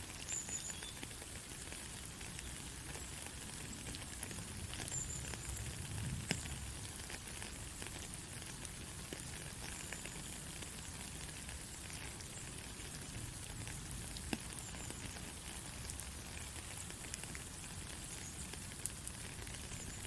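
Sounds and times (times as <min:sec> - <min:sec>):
steady rain falling: 0:00.0 - 0:20.0
raindrop ticks: 0:00.1 - 0:20.0.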